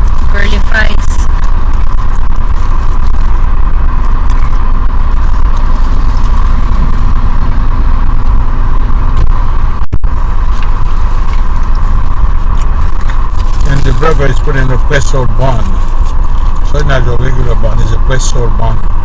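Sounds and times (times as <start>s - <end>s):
car engine rumble inside cabin: 0.0s - 19.0s.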